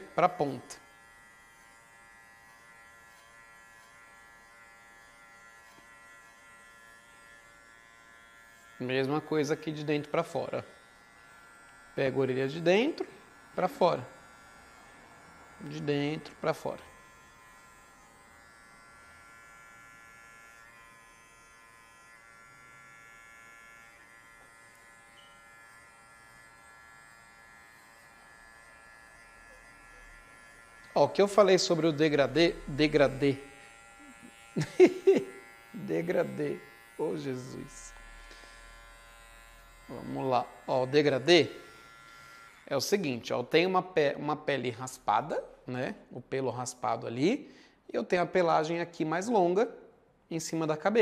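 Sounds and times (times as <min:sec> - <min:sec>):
electric pet clipper buzzing: 0:00.0 - 0:45.6.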